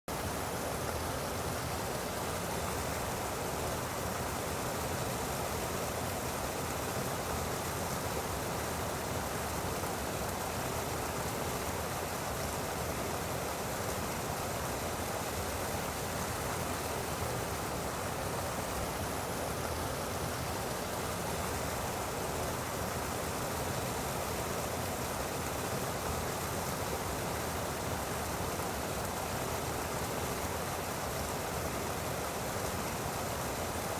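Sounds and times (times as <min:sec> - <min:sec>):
water rushing: 0:00.1 - 0:33.9.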